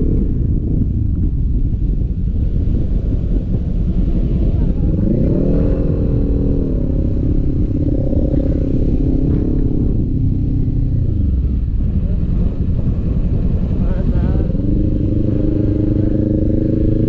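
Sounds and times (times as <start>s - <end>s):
motorcycle engine revving: 0.0s - 17.0s
wind and road rumble: 0.0s - 17.0s.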